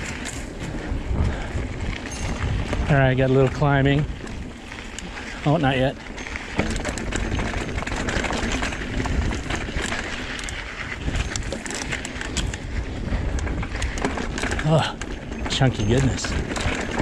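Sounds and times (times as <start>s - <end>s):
bike clicks and rattles: 0.0s - 17.0s
tyres rolling over dirt and rocks: 0.0s - 17.0s
wind rumble on microphone: 0.0s - 17.0s.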